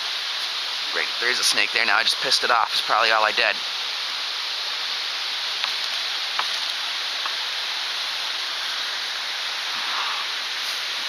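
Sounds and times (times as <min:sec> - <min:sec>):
stream waterfalls rushing: 0:00.0 - 0:11.0.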